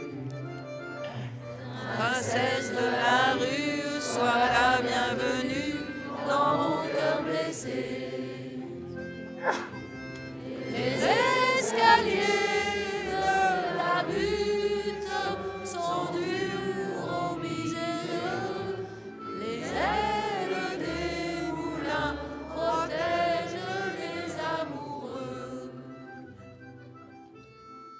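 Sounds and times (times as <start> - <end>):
instrumental backing: 0.0 - 27.9
voices singing together: 1.6 - 26.3.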